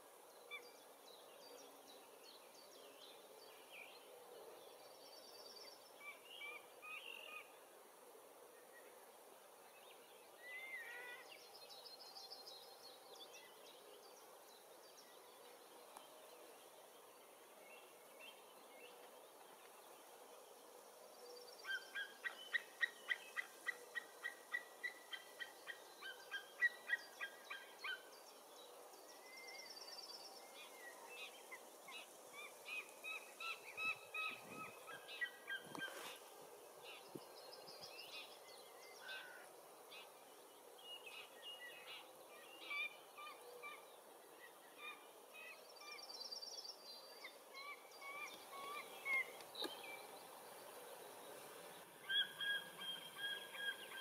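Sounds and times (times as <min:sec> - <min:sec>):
songbirds trilling faintly: 0:00.0 - 0:54.0.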